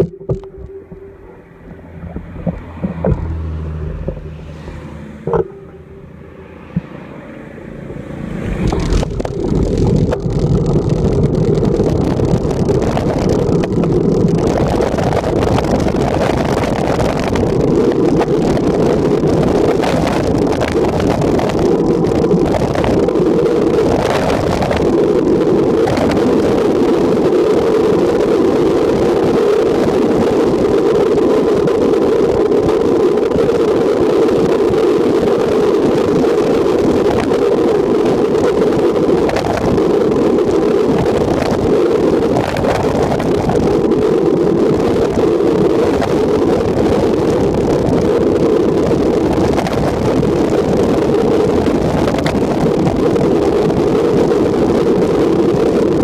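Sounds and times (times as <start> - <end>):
tyre and road noise: 0.0 - 56.0
wind rushing over microphone: 0.0 - 56.0.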